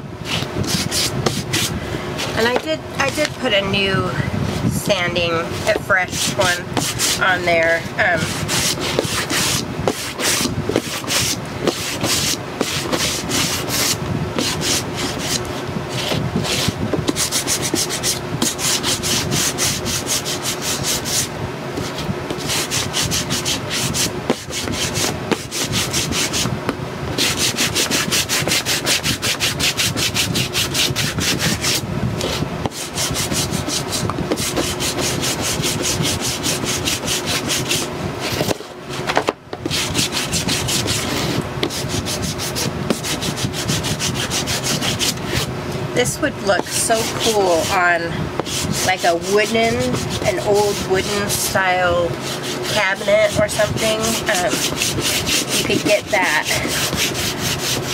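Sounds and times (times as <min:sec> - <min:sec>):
sanding block rubbing on wood: 0:00.2 - 0:02.6, 0:05.6 - 0:26.5, 0:27.2 - 0:57.9.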